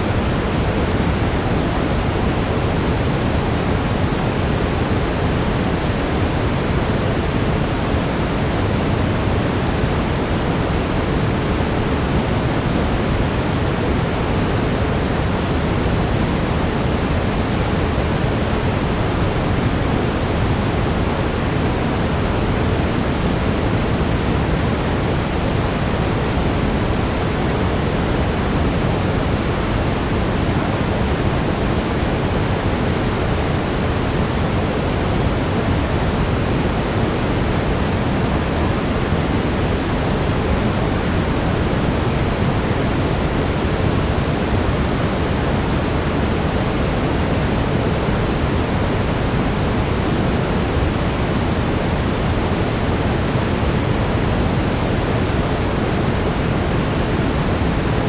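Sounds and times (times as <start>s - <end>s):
brown noise hiss: 0.0s - 58.0s.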